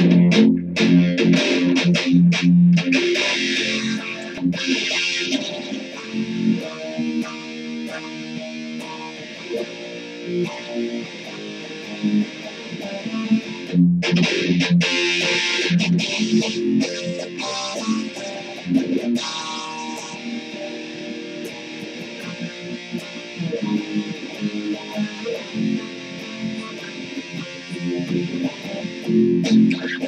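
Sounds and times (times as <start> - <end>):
electric guitar strumming: 0.0 - 30.0.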